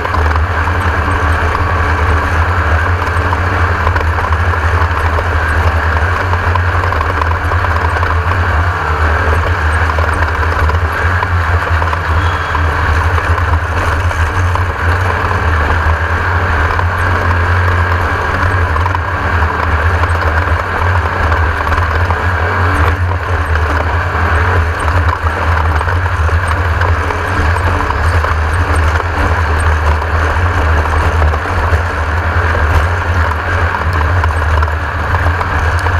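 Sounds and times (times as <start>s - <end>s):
race car engine droning: 0.0s - 35.9s.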